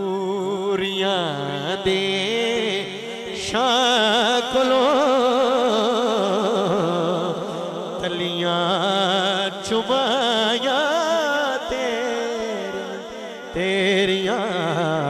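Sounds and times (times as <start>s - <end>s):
man singing through microphone: 0.0s - 15.0s.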